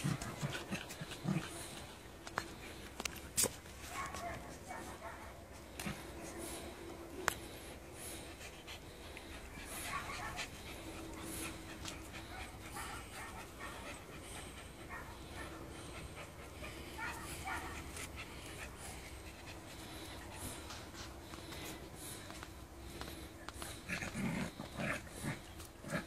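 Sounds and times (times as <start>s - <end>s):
puppies panting: 0.0s - 26.0s.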